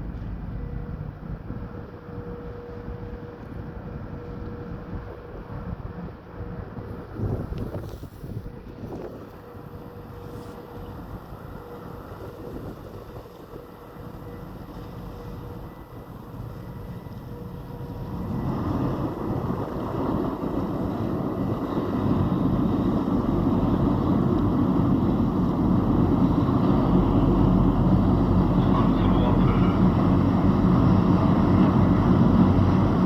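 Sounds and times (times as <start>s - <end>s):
ferry engines running: 0.0s - 33.0s
wind buffeting microphone: 0.0s - 33.0s.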